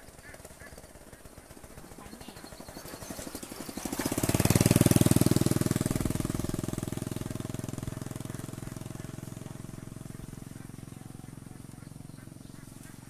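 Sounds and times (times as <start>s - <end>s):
motorcycle engine passing by: 0.0s - 13.0s.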